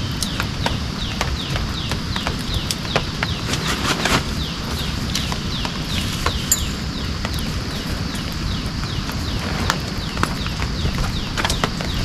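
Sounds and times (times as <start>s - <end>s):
rain tapping on tent: 0.0s - 12.0s
steady rain: 0.0s - 12.0s.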